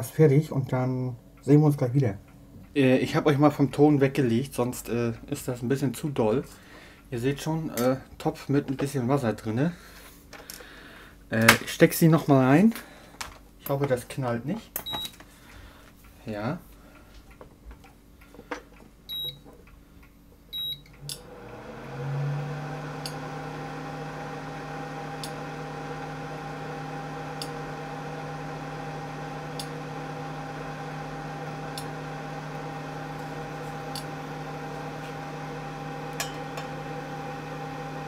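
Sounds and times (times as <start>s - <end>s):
electrical hum and fan noise: 0.0s - 38.0s.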